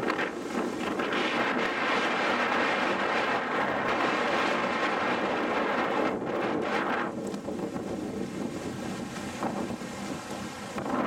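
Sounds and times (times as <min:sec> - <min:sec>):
wind blowing on microphone: 0:00.0 - 0:11.0
wind through trees: 0:00.0 - 0:11.0.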